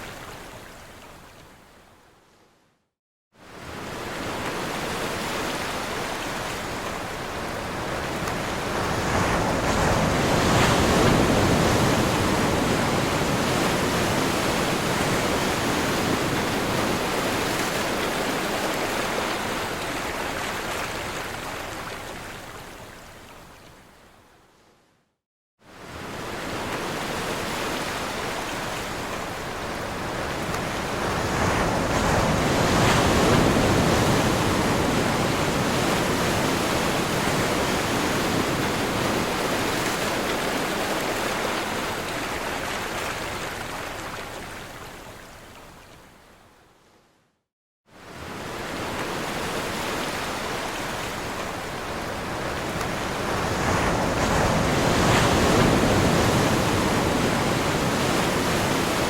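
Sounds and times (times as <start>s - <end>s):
ocean waves crashing: 3.6s - 21.5s, 25.8s - 44.7s, 48.1s - 59.0s.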